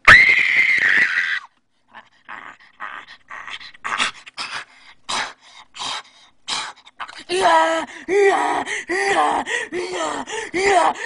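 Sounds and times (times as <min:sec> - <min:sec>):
person panting: 0:01.9 - 0:11.0.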